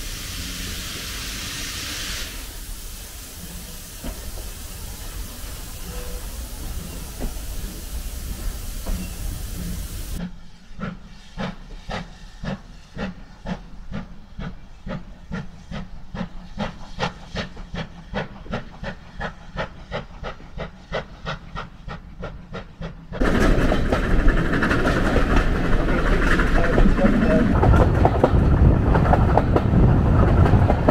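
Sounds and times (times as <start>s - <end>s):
steam locomotive chuffing: 0.0s - 30.9s
train rumbling inside carriage: 0.0s - 30.9s.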